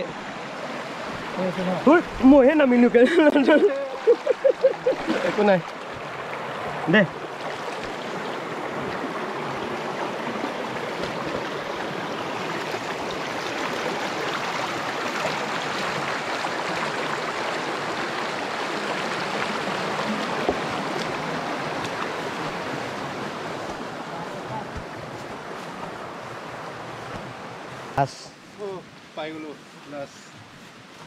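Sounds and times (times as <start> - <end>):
flowing water: 0.0 - 31.0.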